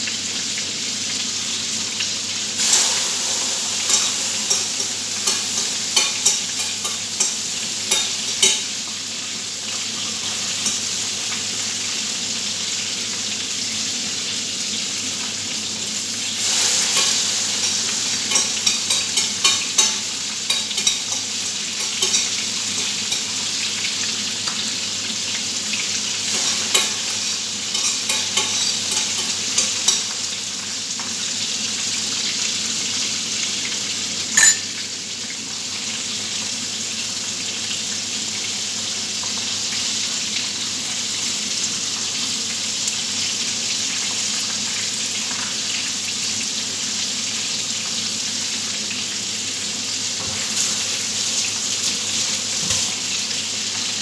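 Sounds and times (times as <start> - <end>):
chicken deep-frying sizzle: 0.0 - 54.0.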